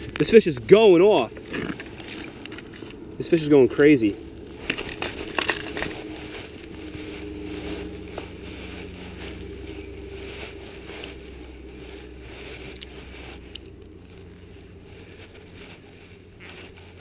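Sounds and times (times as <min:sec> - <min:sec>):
faint hum: 0:00.0 - 0:17.0
fishing line rustling: 0:00.0 - 0:17.0
low rumble: 0:00.0 - 0:17.0.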